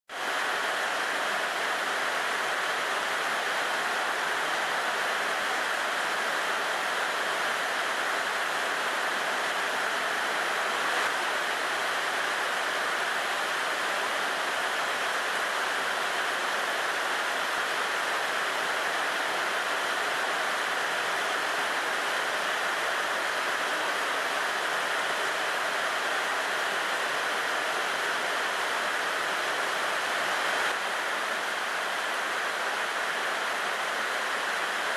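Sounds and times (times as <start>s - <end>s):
heavy rain on plants: 0.1s - 34.9s.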